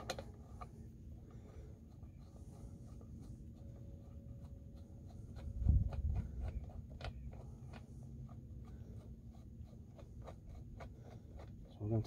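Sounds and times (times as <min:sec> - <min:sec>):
small metal clicks and scrapes: 0:00.0 - 0:12.0.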